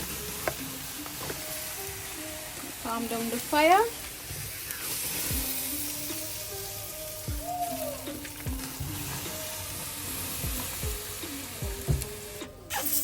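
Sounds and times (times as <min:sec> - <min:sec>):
background music with bass: 0:00.0 - 0:13.0
chicken sizzling on grill: 0:00.0 - 0:13.0.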